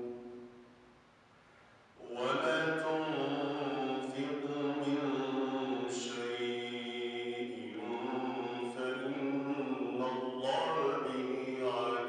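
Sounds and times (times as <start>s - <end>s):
man chanting into microphone: 2.0s - 12.0s.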